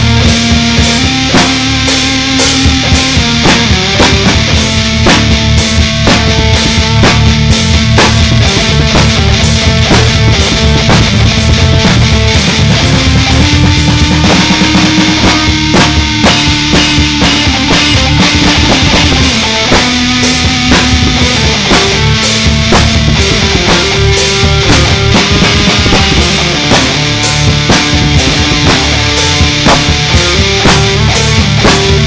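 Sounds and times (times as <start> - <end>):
heavy rock band playing: 0.0 - 32.0.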